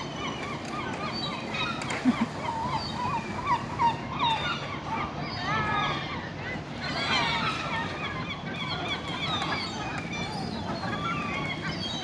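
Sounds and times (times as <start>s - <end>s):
outdoor background noise: 0.0s - 12.0s
water birds calling: 0.0s - 12.0s.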